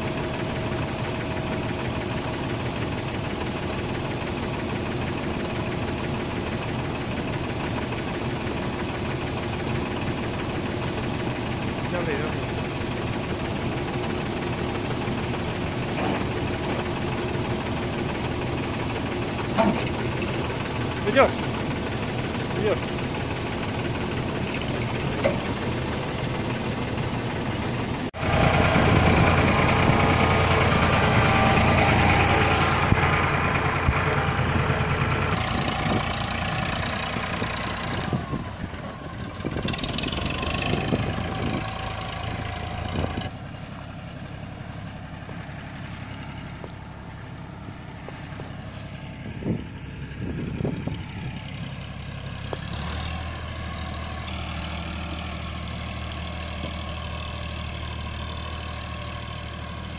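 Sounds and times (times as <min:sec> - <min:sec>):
combine harvester running: 0:00.0 - 0:59.9
tractor engine running: 0:00.0 - 0:59.9.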